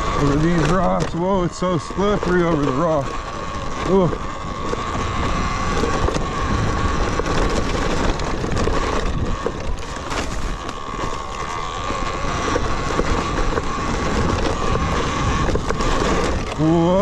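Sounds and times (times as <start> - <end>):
bike knocks and rattles: 0.0 - 17.0
electric motor whine: 0.0 - 17.0
wind noise on microphone: 3.0 - 17.0.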